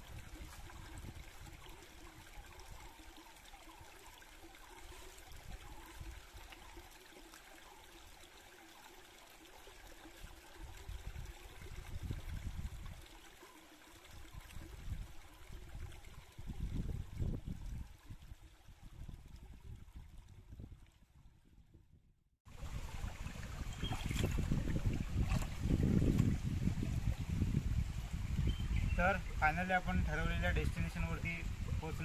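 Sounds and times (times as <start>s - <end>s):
forest stream flowing: 0.0s - 21.1s, 22.5s - 32.0s.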